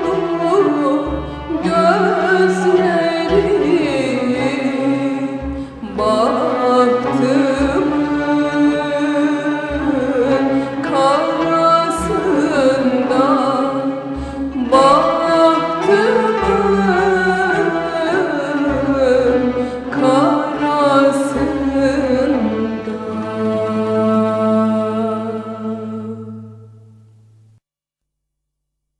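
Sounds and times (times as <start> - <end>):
woman singing: 0.0 - 26.6
instrumental accompaniment: 0.0 - 27.6.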